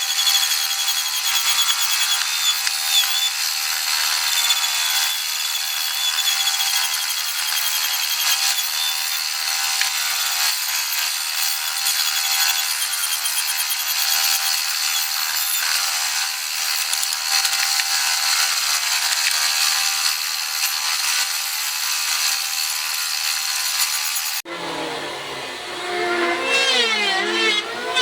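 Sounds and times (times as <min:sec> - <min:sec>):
woodworking power tool running: 0:00.0 - 0:28.0.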